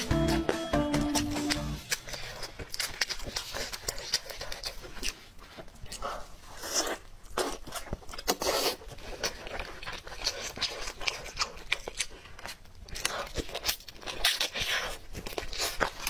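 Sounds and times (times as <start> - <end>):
meat tearing: 0.9 - 16.0
chewing and lip smacks: 1.0 - 16.0.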